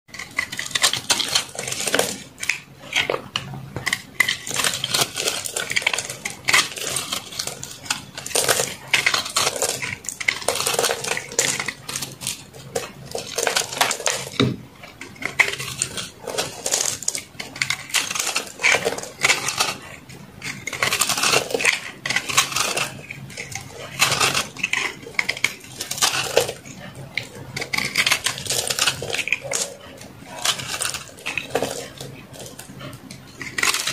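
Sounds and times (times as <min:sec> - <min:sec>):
crunchy crackles of flakes: 0:00.1 - 0:33.9
knife scraping soap: 0:00.1 - 0:33.9.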